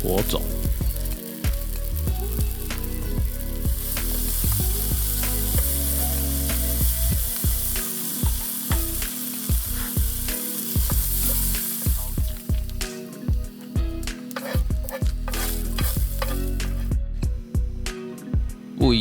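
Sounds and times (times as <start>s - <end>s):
background music with beat: 0.0s - 19.0s
fire hissing and crackling: 0.0s - 19.0s.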